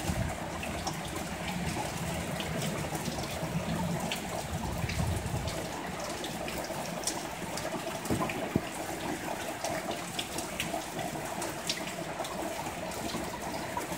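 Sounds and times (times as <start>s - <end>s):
heavy rain falling: 0.0s - 13.9s.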